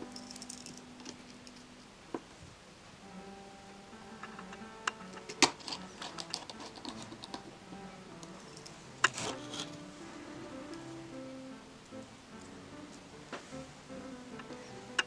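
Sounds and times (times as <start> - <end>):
quiet piano music: 0.0 - 15.0.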